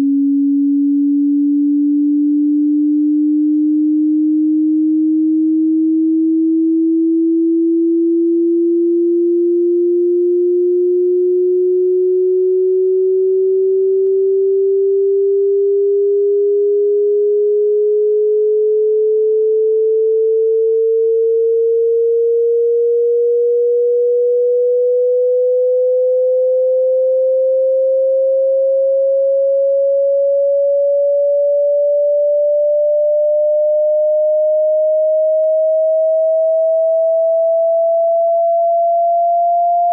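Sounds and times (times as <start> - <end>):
rising sine test tone: 0.0 - 39.9.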